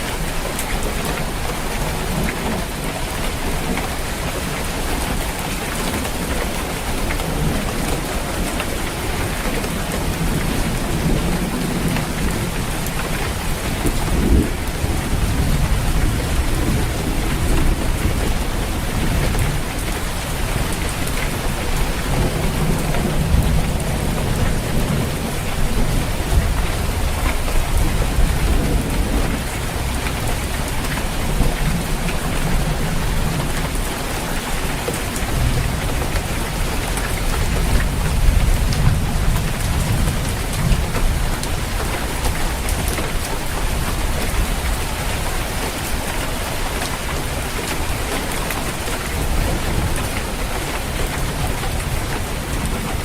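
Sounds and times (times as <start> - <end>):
heavy rain on a roof: 0.0 - 53.0
thunder rumbling: 6.6 - 53.0.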